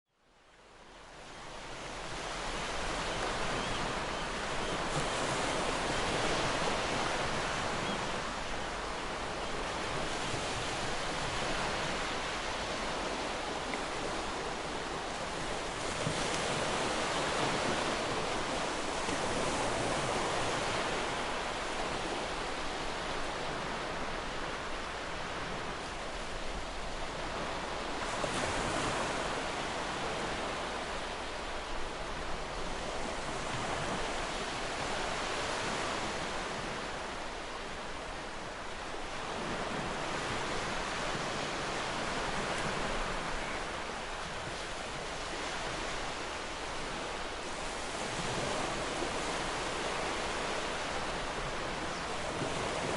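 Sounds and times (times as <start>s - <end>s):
ocean waves washing on shore: 0.4s - 52.9s.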